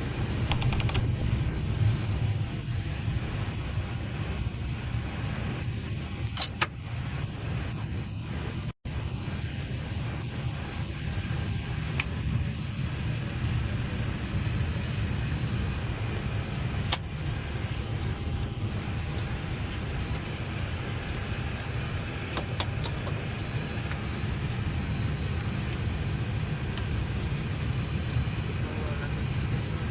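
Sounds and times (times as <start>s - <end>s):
cockpit low rumble with hiss: 0.0s - 29.9s.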